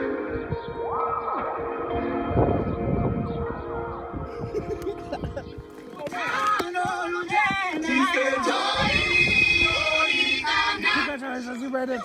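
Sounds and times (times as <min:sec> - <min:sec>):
music with singing voices: 0:00.0 - 0:12.0.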